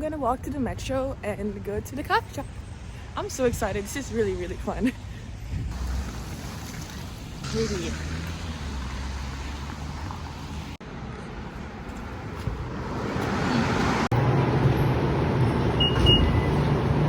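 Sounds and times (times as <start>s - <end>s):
passing vehicles rumble: 0.3s - 17.0s.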